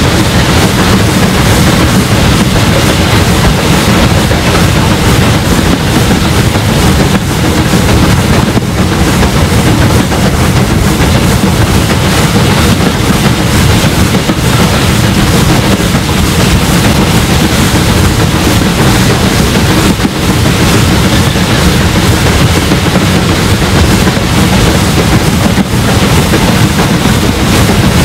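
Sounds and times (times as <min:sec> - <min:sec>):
steam locomotive exhaust beats: 0:00.0 - 0:28.0
train wheel and running noise: 0:00.0 - 0:28.0
wind on microphone: 0:00.0 - 0:28.0.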